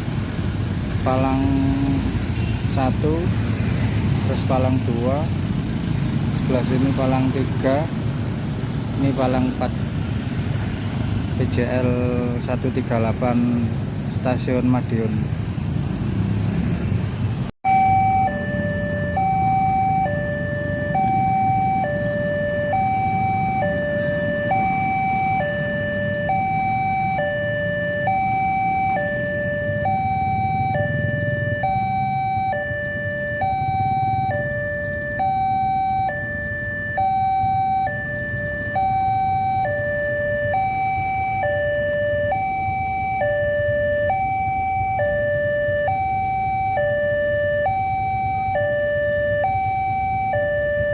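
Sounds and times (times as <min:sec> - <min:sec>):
two-tone electronic siren: 0:00.0 - 0:08.4, 0:17.6 - 0:50.9
road traffic rumble: 0:00.0 - 0:50.9.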